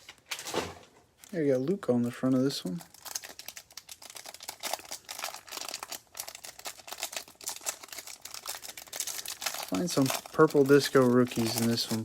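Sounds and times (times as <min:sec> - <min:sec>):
card pack wrapper crinkling: 0:01.2 - 0:12.0.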